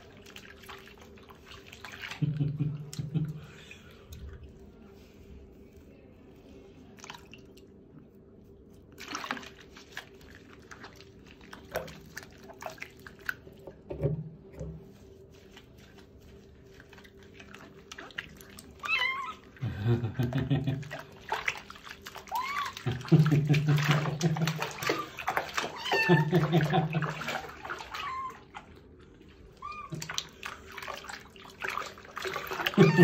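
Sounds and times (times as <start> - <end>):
water splashing and dripping: 0.0 - 3.4, 7.0 - 7.7, 8.9 - 14.0, 14.6 - 33.0
faint steady hum: 0.0 - 33.0.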